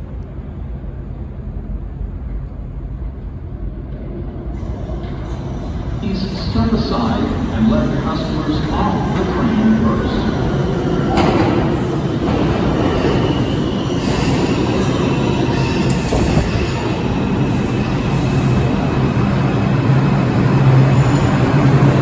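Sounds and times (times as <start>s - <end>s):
subway train wheels rumbling on rail: 0.0s - 22.0s.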